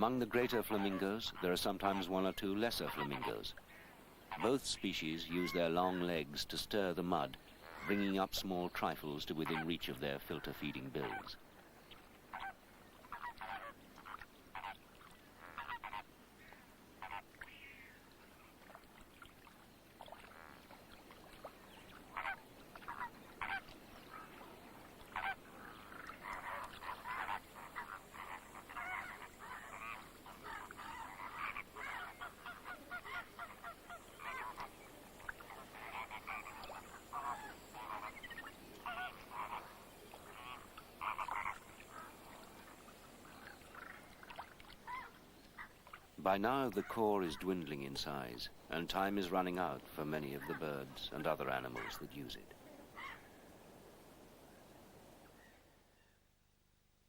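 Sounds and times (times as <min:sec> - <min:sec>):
flamingos honking: 0:00.0 - 0:11.4, 0:12.3 - 0:14.8, 0:15.4 - 0:17.9, 0:21.5 - 0:53.4.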